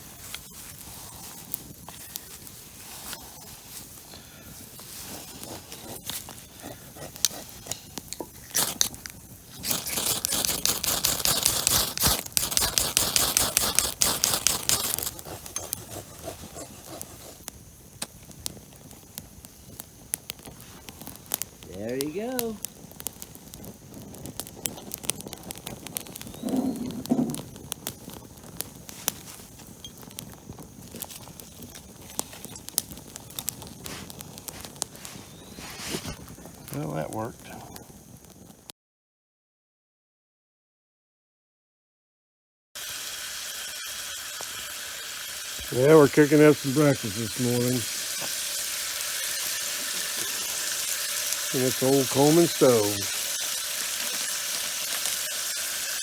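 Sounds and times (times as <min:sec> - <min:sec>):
pine needles crackling on fire: 0:00.0 - 0:38.7, 0:42.8 - 0:56.0.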